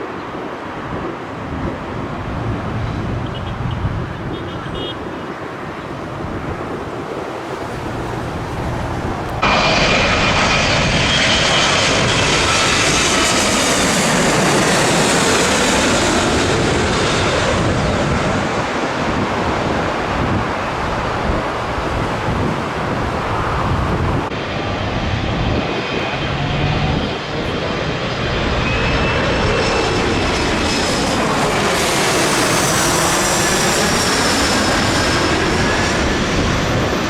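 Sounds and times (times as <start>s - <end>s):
high jet engine whine: 0.0s - 37.0s
jet engines roaring overhead: 0.0s - 37.0s.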